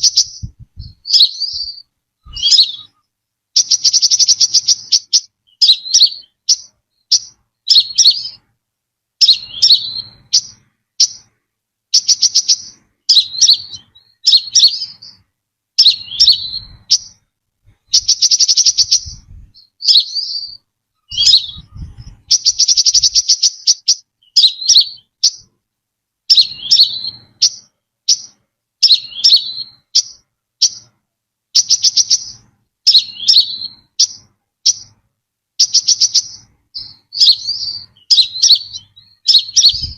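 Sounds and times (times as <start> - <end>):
bird high chipping calls: 0.0 - 8.5, 9.2 - 25.5, 26.3 - 35.0, 35.6 - 39.9.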